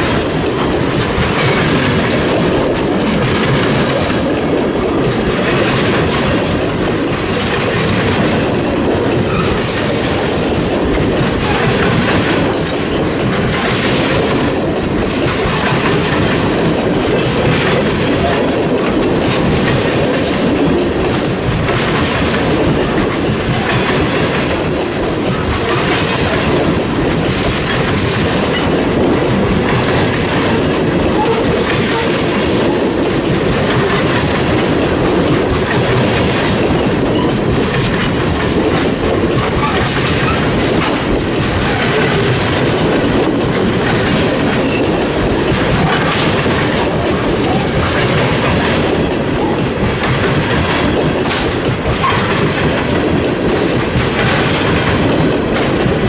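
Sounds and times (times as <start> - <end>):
train wheels clicking over rail joints: 0.0 - 56.0.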